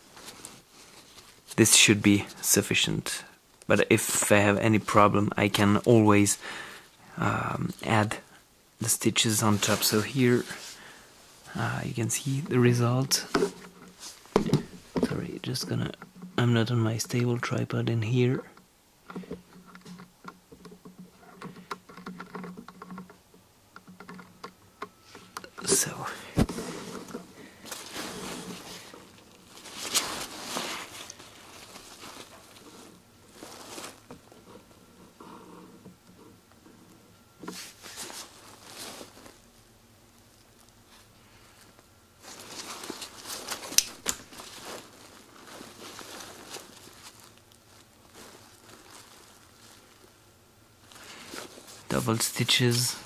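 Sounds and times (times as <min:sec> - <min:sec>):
clicks and rustles of handling: 0:00.0 - 0:02.7, 0:11.9 - 0:50.2, 0:50.8 - 0:53.0
faint steady hum: 0:00.0 - 0:53.0.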